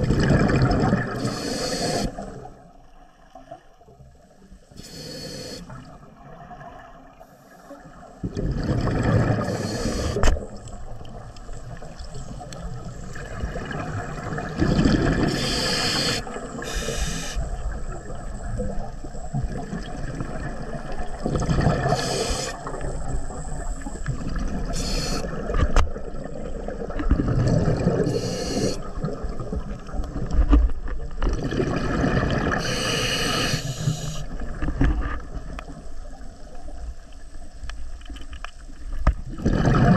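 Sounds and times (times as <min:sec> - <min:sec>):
exhaled bubbles and regulator hiss: 0:00.0 - 0:03.5, 0:04.2 - 0:30.5, 0:31.2 - 0:37.6, 0:39.0 - 0:39.9
underwater gurgling: 0:00.0 - 0:39.9.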